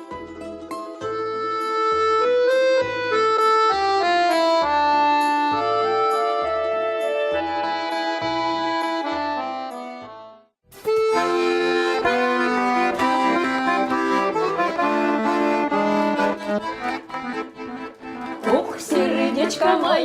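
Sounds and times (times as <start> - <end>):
button accordion playing chords: 1.0 - 20.0.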